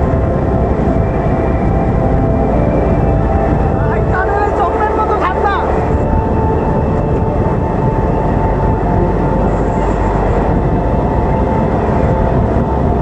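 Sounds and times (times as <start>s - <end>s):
steady whine: 0.0s - 13.0s
train rumble: 0.0s - 13.0s.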